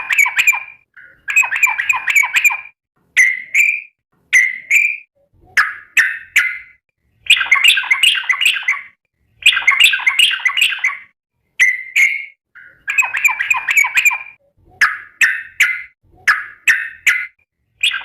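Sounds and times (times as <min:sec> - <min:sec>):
bird chattering song: 0:00.0 - 0:18.0.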